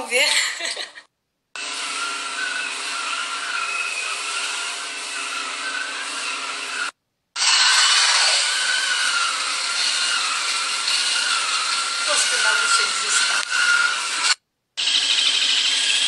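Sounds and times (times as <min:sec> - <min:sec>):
machine motor whirring: 0:01.6 - 0:16.0.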